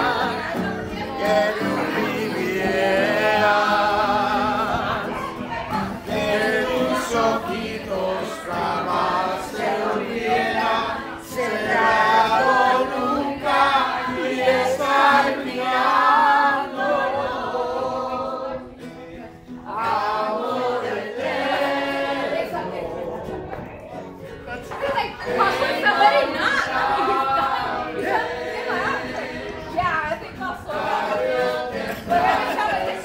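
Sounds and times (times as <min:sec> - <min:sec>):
group singing over music: 0:00.0 - 0:23.8, 0:24.8 - 0:33.0.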